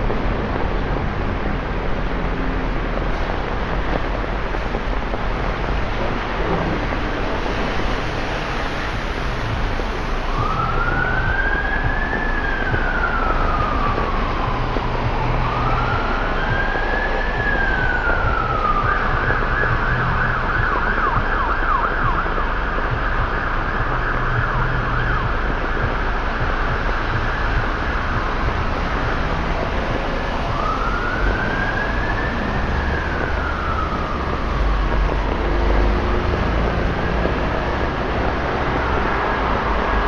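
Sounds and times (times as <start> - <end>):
emergency vehicle siren: 0.0 - 40.0
traffic on wet road: 0.0 - 40.0.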